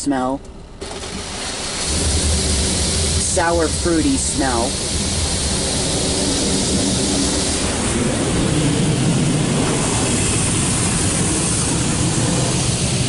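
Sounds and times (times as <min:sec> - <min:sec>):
low rumble: 0:00.4 - 0:13.0
water spray jets rushing: 0:00.8 - 0:13.0.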